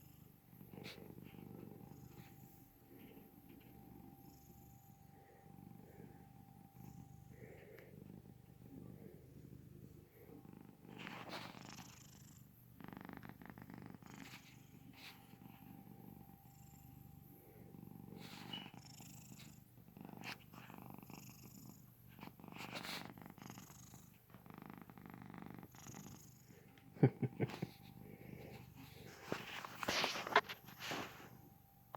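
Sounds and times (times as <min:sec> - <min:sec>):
soft snoring: 0:00.0 - 0:31.3.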